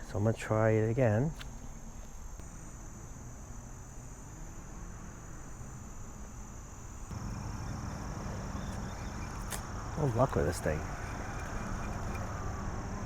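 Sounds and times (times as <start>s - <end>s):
insects chirring: 0.0s - 13.0s
low outdoor rumble: 0.9s - 13.0s.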